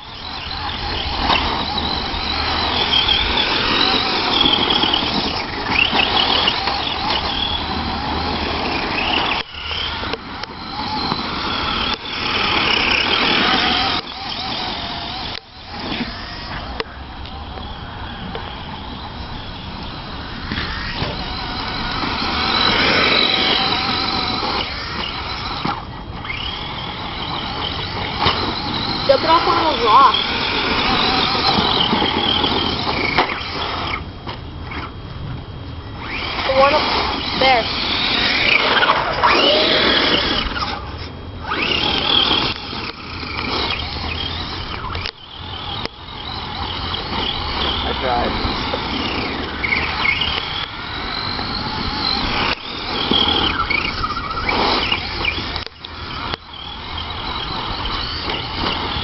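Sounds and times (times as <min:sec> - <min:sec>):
electric motor whining: 0:00.0 - 0:59.0
tyres on dirt: 0:00.0 - 0:59.0.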